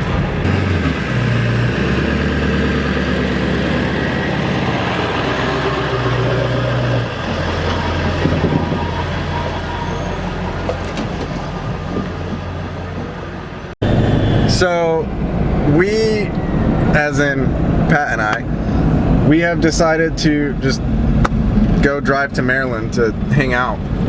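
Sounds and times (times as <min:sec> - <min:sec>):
road noise: 0:00.0 - 0:24.0
truck engine droning: 0:00.0 - 0:24.0.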